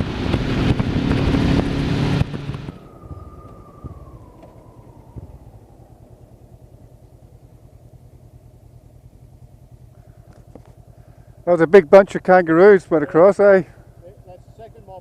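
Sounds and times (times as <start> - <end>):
motorcycle engine idling: 2.3 - 15.0.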